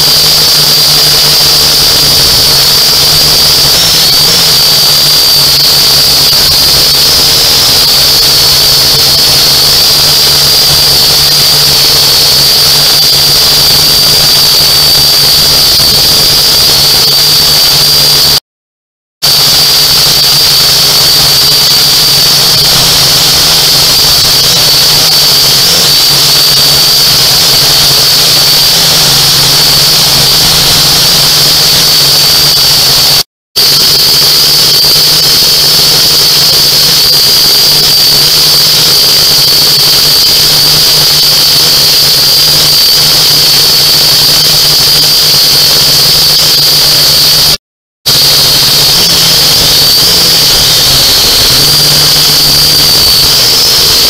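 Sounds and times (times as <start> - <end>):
drone propellers whining: 0.0 - 18.4, 19.3 - 47.2, 48.1 - 54.0.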